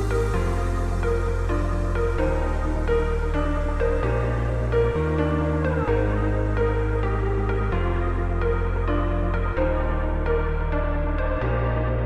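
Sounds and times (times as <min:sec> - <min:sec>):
calm electronic music: 0:00.0 - 0:12.0.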